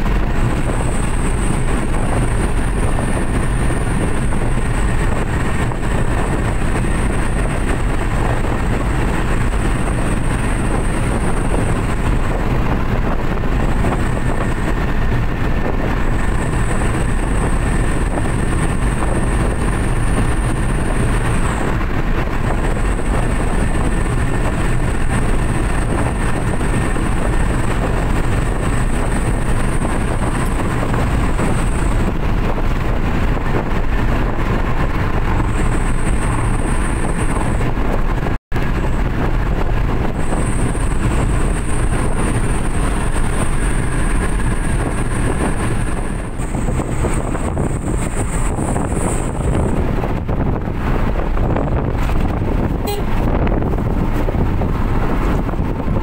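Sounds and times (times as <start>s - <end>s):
engine drone: 0.0s - 56.0s
tyre and wind noise: 0.0s - 56.0s.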